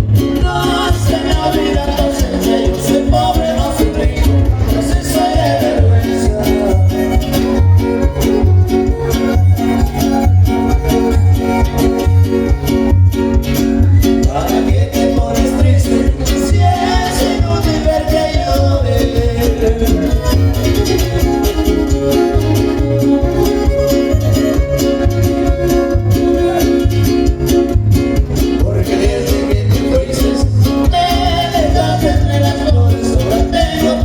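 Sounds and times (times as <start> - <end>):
latin american music with singing: 0.0 - 34.0.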